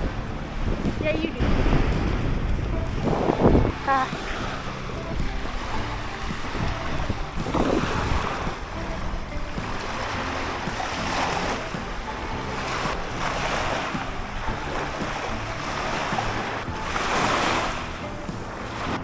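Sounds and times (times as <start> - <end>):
surf breaking on shore: 0.0 - 19.0
wind buffeting microphone: 0.0 - 19.0.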